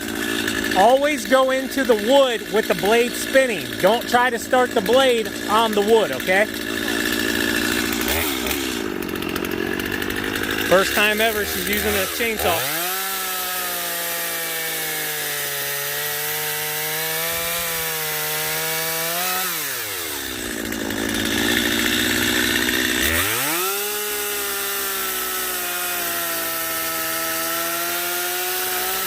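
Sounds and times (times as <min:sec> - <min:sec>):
chainsaw cutting log: 0:00.0 - 0:29.0.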